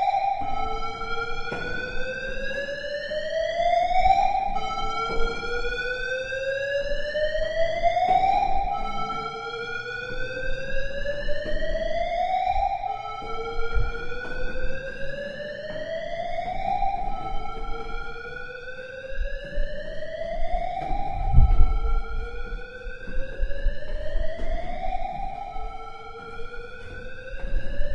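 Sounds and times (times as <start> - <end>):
rising electronic alarm tone: 0.0 - 27.9.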